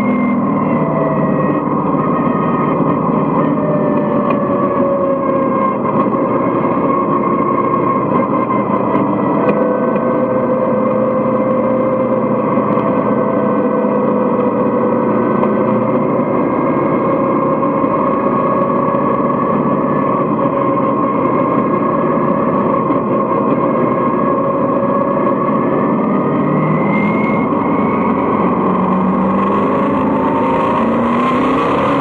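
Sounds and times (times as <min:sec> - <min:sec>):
race car engine running hard: 0:00.0 - 0:32.0.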